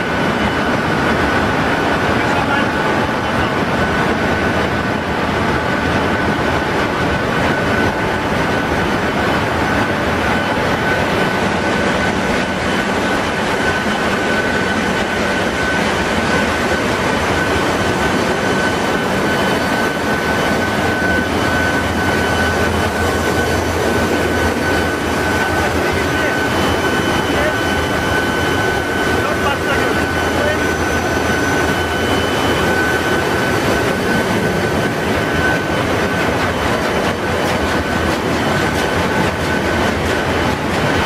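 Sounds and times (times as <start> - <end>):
engine room machinery running: 0.0 - 41.0
high mechanical whine: 0.0 - 41.0.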